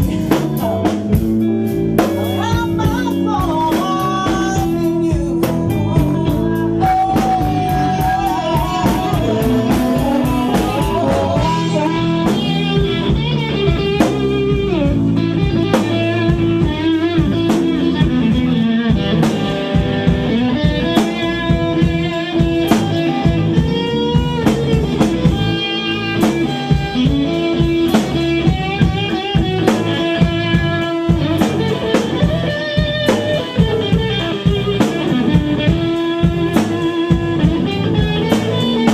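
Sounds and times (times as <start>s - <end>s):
blues-rock band playing: 0.0s - 38.9s
electric guitar lead: 0.0s - 38.9s
steady drum beat: 0.0s - 38.9s.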